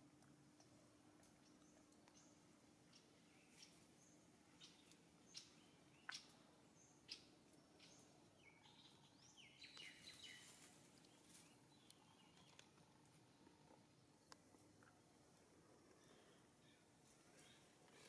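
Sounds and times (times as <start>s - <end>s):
faint bird chirps: 1.4s - 14.3s, 15.7s - 18.0s.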